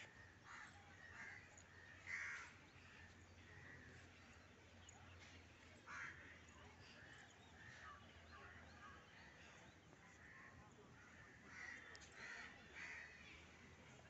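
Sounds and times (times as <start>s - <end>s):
faint crows cawing: 0.0s - 4.5s, 5.8s - 13.6s.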